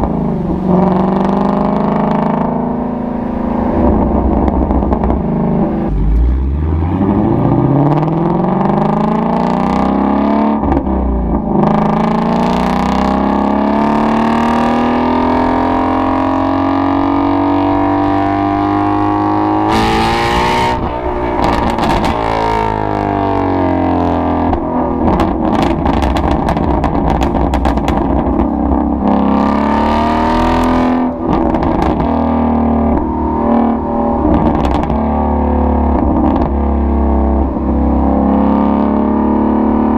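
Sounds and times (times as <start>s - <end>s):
engine revving at full throttle: 0.0s - 39.9s
exhaust crackling: 0.0s - 39.9s.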